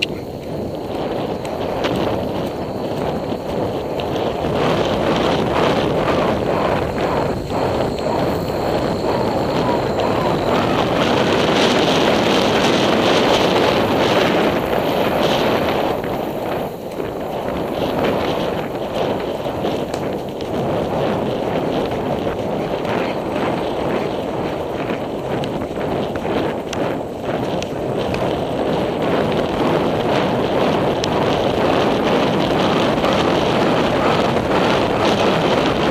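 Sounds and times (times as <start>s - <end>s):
horse hoofbeats: 0.0s - 35.9s
wind rushing over microphone: 0.0s - 35.9s.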